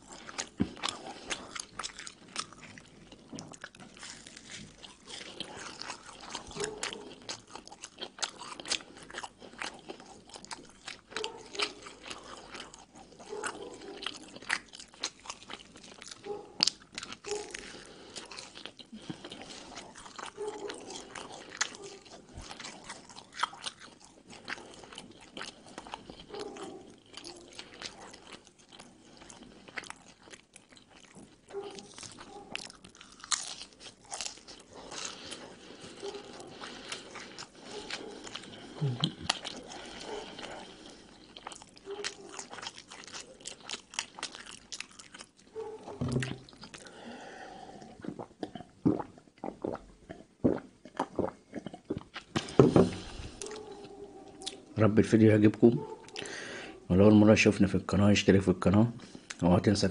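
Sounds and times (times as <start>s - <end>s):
bread bites and chewing crunches: 0.0s - 56.4s.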